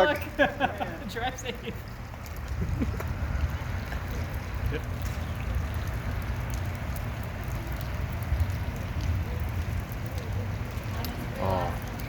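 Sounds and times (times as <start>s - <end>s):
light rain falling: 0.0s - 12.0s
ticks of raindrops: 0.0s - 12.0s.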